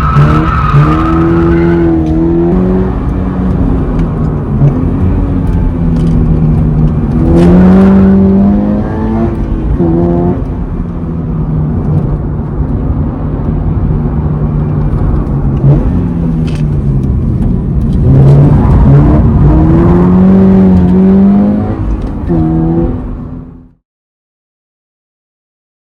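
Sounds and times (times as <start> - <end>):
car engine accelerating: 0.0 - 23.8.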